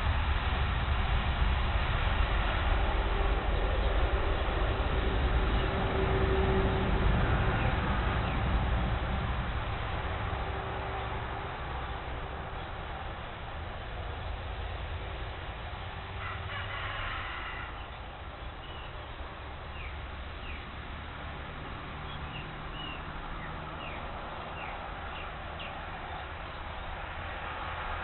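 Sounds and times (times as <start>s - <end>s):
low wind rumble: 0.0s - 28.0s.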